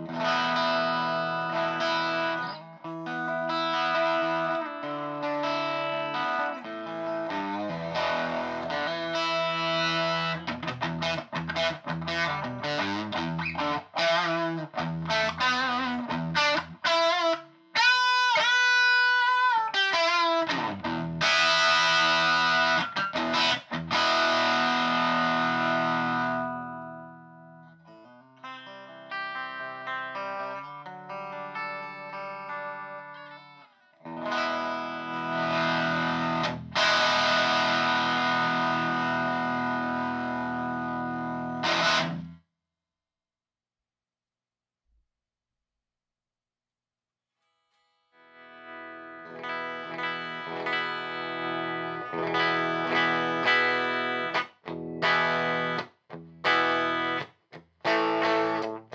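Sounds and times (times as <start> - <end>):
overdriven electric guitar: 0.0 - 42.4, 48.2 - 58.9.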